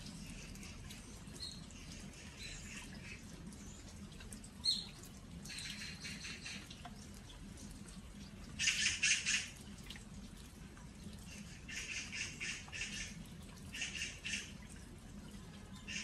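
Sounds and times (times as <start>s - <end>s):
rain pattering on earthenware jars: 0.0s - 16.0s.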